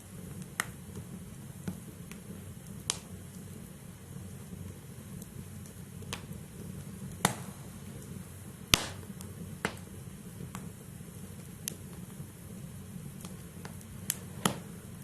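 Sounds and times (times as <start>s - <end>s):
fire flames rustling: 0.0s - 15.0s
logs crackling and popping: 0.1s - 15.0s.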